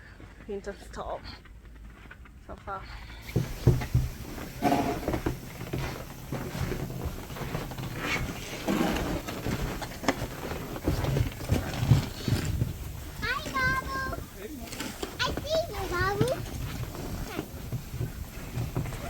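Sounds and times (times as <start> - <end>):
snow shovel scraping: 3.2 - 19.0.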